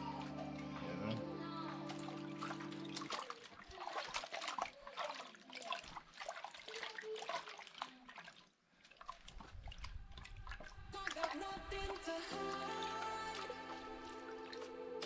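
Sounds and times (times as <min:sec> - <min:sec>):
water splashing in a pot: 0:01.8 - 0:15.0.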